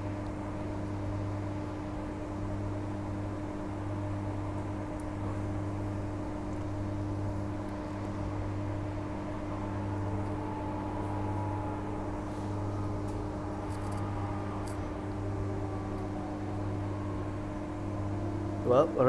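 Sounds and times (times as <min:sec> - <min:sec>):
train interior hum: 0:00.0 - 0:19.0.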